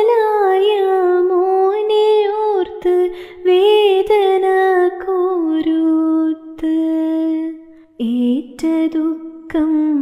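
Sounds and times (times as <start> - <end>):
woman singing devotional song: 0.0 - 10.0.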